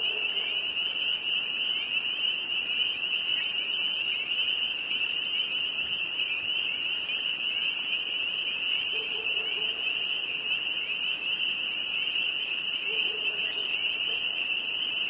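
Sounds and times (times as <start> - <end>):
frogs peeping in chorus: 0.0 - 15.0.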